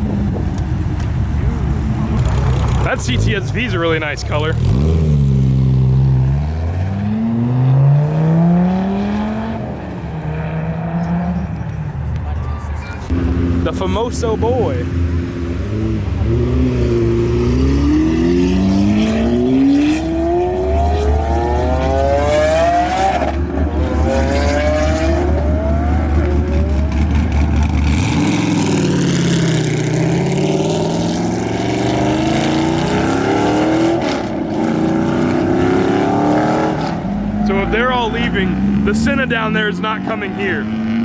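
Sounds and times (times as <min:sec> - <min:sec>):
car engine revving through gears: 0:01.7 - 0:11.6, 0:13.1 - 0:41.0.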